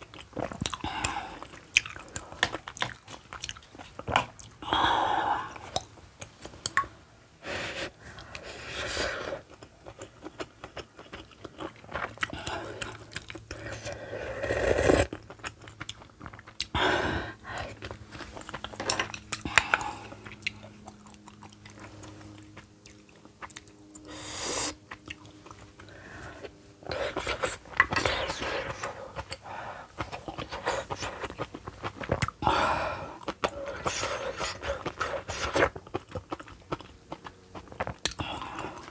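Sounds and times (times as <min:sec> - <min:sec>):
wet chewing: 0:00.0 - 0:07.0, 0:08.1 - 0:38.9.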